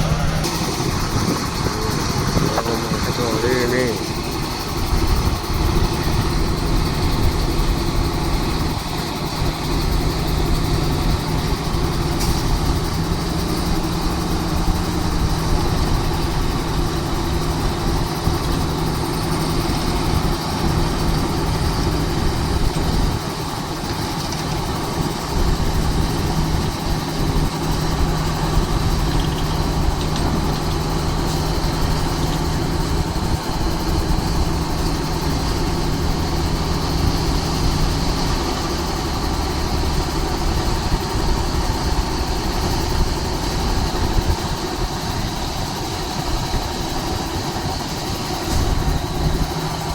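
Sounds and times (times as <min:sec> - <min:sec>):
large engine humming: 0:00.0 - 0:49.9.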